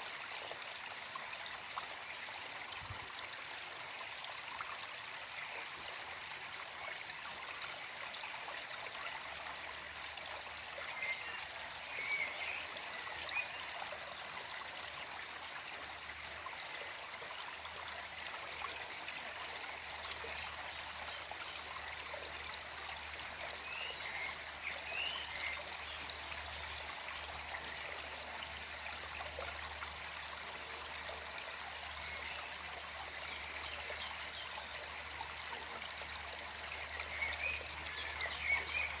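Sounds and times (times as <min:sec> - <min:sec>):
stream trickling over stones: 0:00.0 - 0:39.0.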